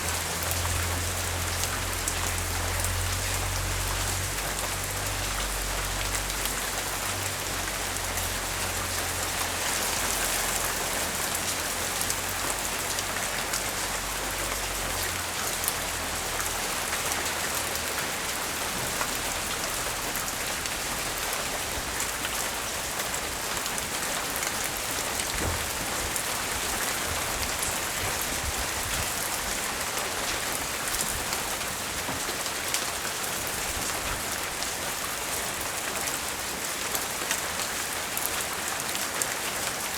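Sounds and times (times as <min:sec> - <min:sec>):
light rain: 0:00.0 - 0:39.9.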